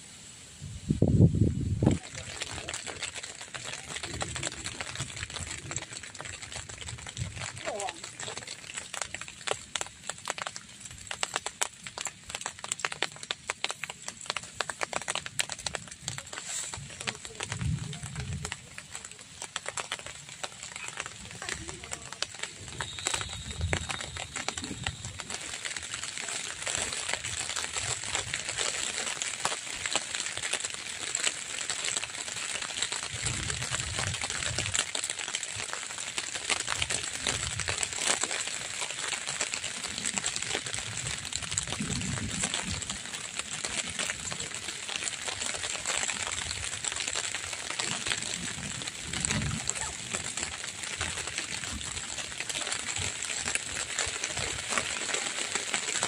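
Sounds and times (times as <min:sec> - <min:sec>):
drizzle pattering on tent: 0:00.0 - 0:56.0.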